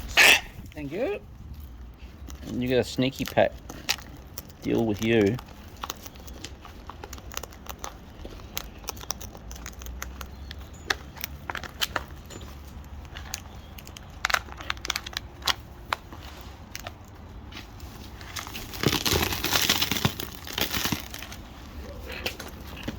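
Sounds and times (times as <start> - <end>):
parrots cracking seeds: 1.5 - 17.2, 18.2 - 22.9.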